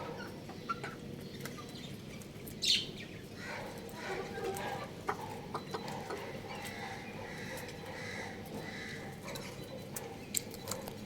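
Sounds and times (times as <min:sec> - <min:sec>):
young chicken chirping: 0:00.0 - 0:10.8.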